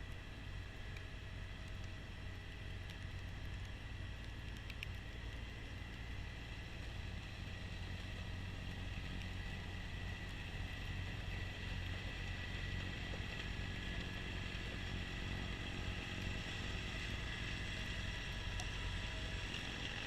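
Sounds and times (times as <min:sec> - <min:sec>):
tractor diesel engine drone: 0:00.0 - 0:20.0.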